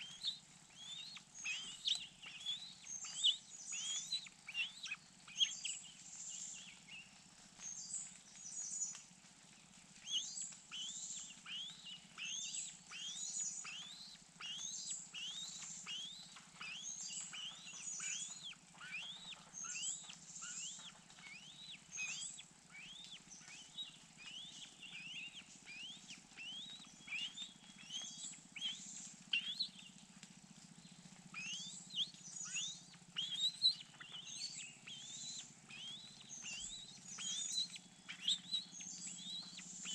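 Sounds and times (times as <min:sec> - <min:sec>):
high bird chirps: 0:00.0 - 0:05.8, 0:10.1 - 0:29.8, 0:31.3 - 0:39.9
birds whistling upslurred notes: 0:00.0 - 0:09.0, 0:10.0 - 0:30.0, 0:31.3 - 0:39.9.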